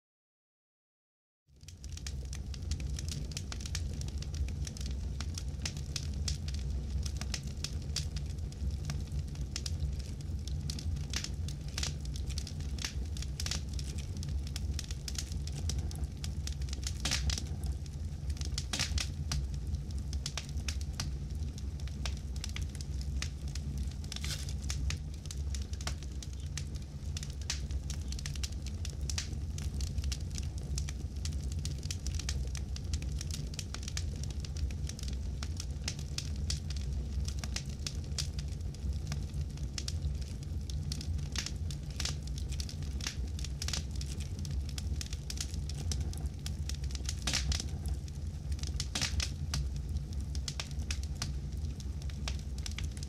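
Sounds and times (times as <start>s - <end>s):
campfire flame rumble: 1.5s - 53.0s
fire crackling and popping: 1.5s - 53.0s.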